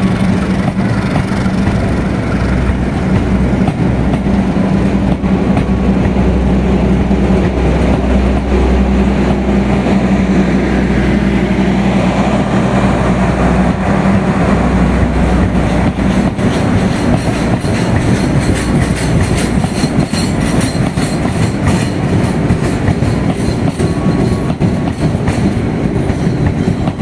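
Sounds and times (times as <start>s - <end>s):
diesel locomotive engine hum: 0.0s - 27.0s
train moving on rails: 0.0s - 27.0s.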